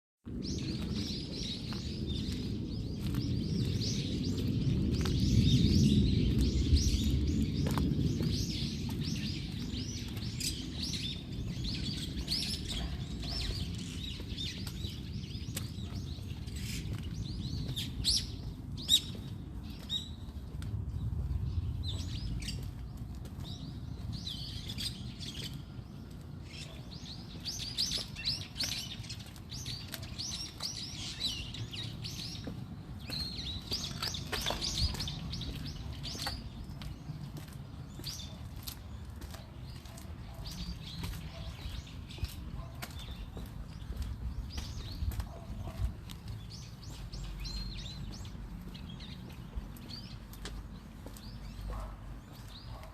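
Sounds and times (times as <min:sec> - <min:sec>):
small songbirds chirping: 0:00.3 - 0:52.9.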